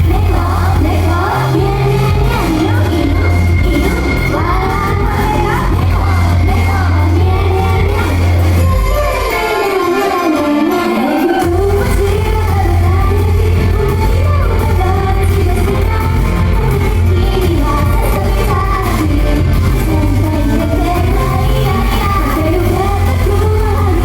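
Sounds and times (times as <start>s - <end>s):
person singing: 0.0s - 24.0s
pop backing track with heavy bass: 0.0s - 24.0s.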